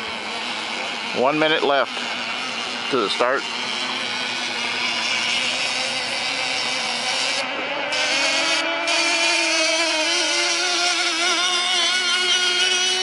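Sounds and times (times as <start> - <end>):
model boat engines buzzing: 0.0 - 13.0.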